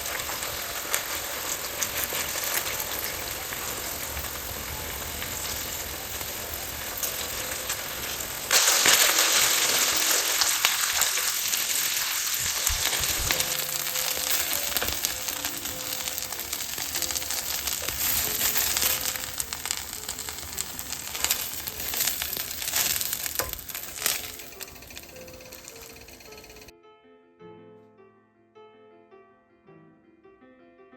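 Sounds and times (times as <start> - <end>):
fritters sizzling in oil: 0.0 - 26.6.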